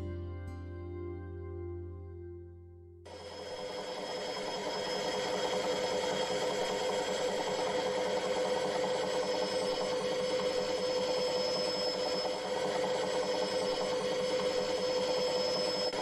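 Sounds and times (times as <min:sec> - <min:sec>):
frame saw running: 0:03.1 - 0:16.0.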